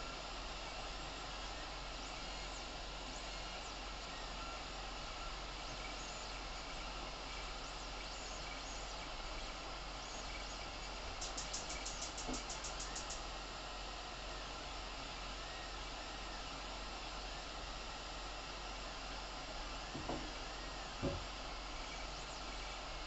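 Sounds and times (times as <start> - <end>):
printer fan hiss: 0.0 - 23.0.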